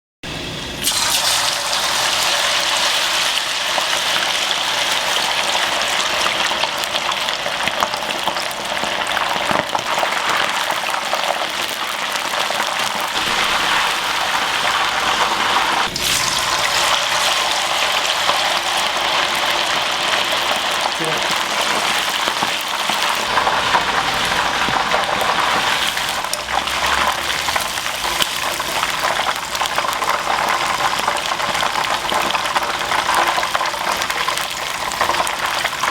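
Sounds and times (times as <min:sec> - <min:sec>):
chicken deep-frying in oil: 0:00.3 - 0:35.9.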